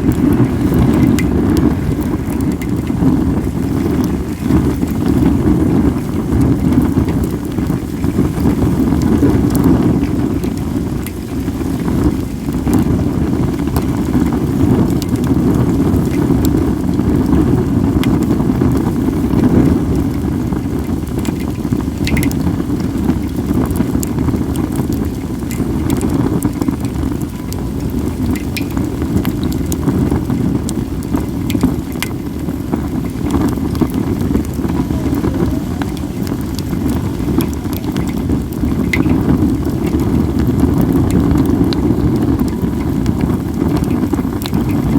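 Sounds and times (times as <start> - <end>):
fire popping: 0.0 - 44.9
wind rumble on microphone: 0.0 - 44.9
wood fire crackling: 0.0 - 44.9.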